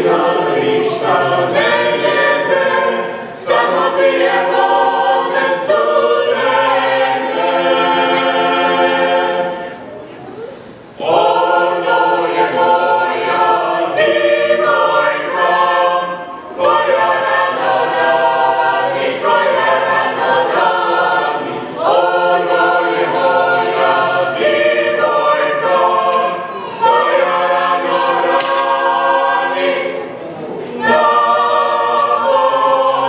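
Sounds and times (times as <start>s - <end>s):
choir singing a cappella: 0.0s - 10.1s, 10.9s - 33.0s.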